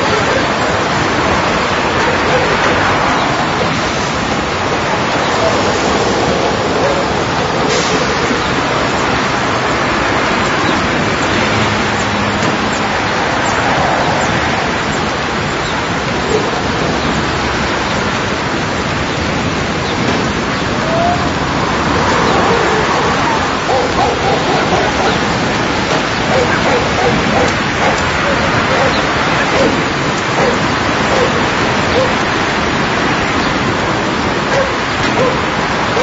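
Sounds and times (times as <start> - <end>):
hiss-like ambient wash: 0.0 - 36.0.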